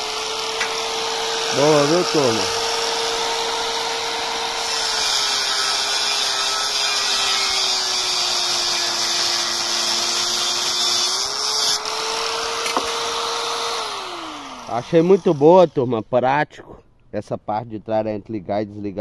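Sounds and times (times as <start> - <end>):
angle grinder motor whine: 0.0 - 15.7.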